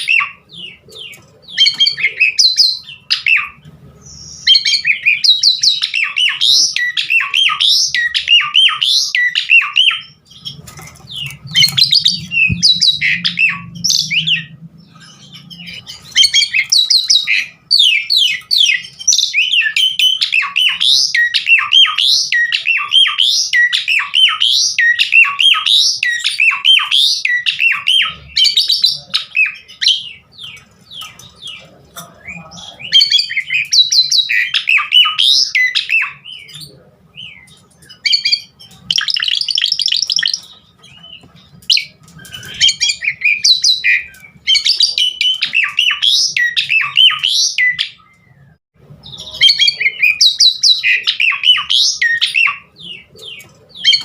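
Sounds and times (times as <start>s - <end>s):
starling singing: 0.0s - 54.0s.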